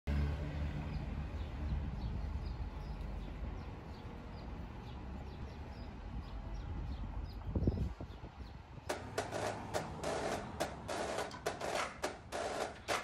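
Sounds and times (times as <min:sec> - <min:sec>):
low traffic rumble: 0:00.1 - 0:13.0.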